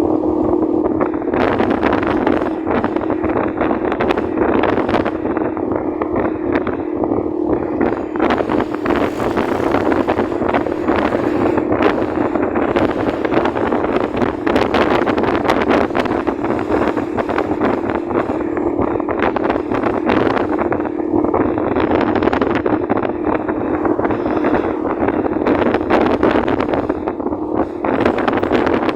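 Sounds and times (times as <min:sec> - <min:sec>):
motorcycle engine humming: 0:00.0 - 0:28.9
wind buffeting microphone: 0:00.0 - 0:28.9.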